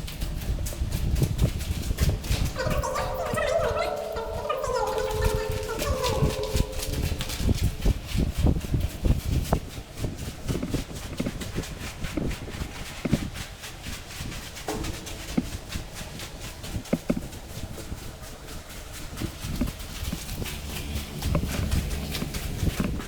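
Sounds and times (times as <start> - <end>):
footsteps on rough trail: 0.0 - 23.0.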